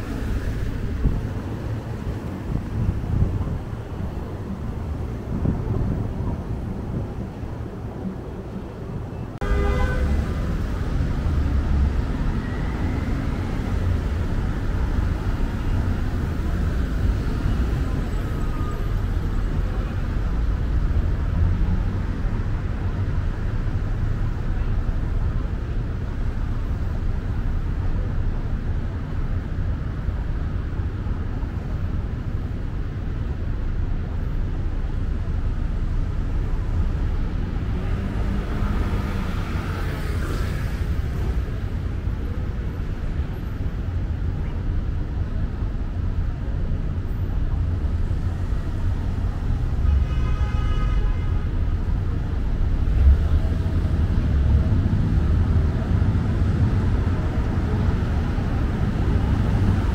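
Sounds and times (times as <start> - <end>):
cars rumbling: 0.0 - 59.9.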